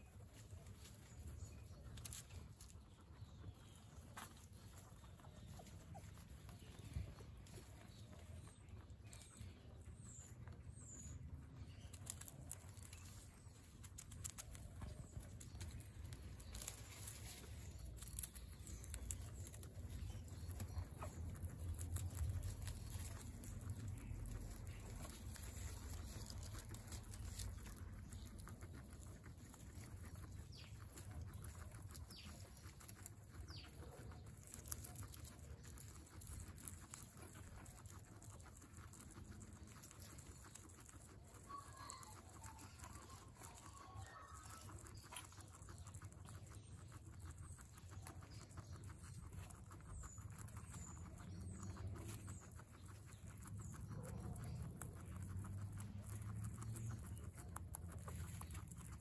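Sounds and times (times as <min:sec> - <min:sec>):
guinea pig chewing hay: 0:00.0 - 0:59.0.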